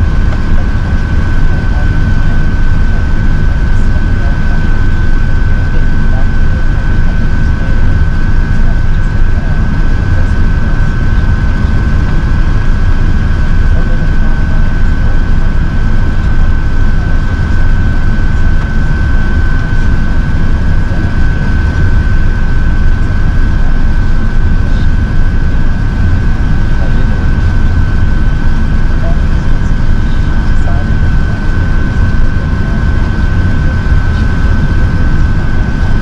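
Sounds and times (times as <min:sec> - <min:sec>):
high whine: 0:00.0 - 0:36.0
jet engines rumbling: 0:00.0 - 0:36.0.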